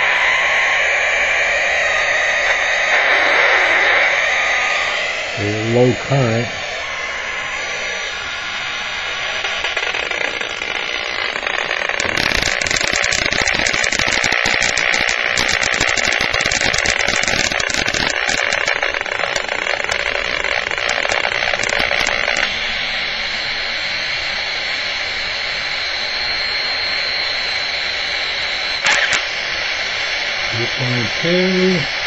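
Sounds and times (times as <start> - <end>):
detector alarm crackling buzz: 0.0 - 32.0
steady hiss with high tone: 0.0 - 32.0.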